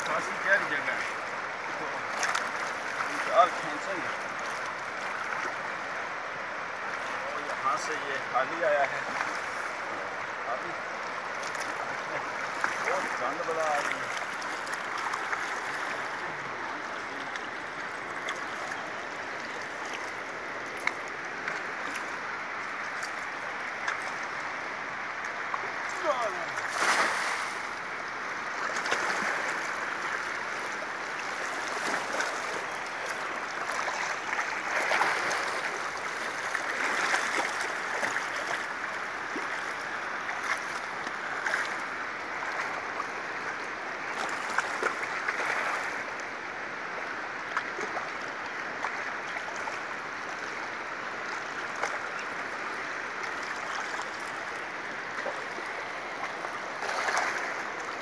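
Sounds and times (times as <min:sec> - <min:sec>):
river water rushing over rocks: 0:00.0 - 0:58.0
water splashes: 0:00.0 - 0:58.0.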